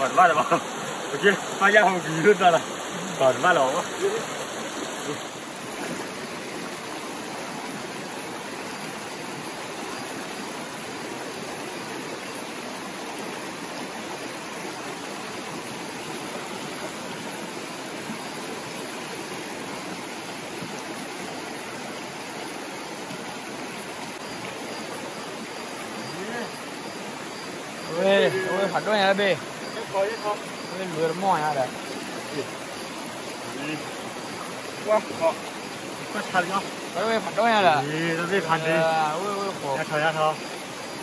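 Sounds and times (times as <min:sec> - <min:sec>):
stream flowing over rocks: 0:00.0 - 0:41.0.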